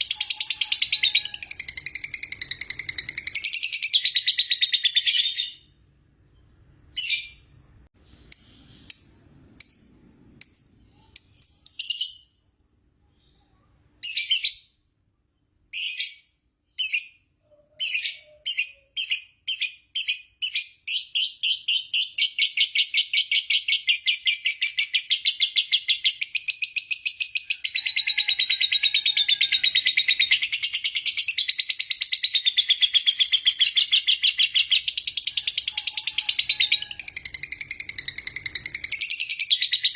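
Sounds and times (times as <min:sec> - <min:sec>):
lovebird chirping trill: 0:00.0 - 0:12.4, 0:15.7 - 0:39.9.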